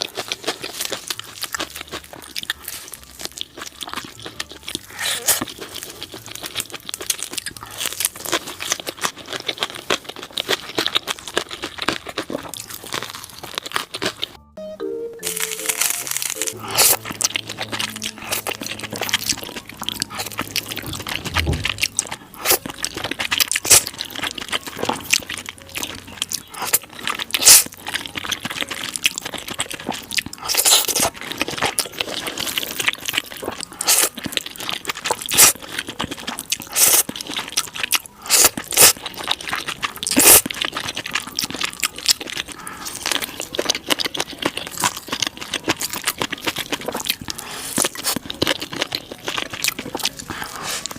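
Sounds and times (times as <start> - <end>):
crunchy chewing: 0.0 - 14.4, 15.3 - 50.9.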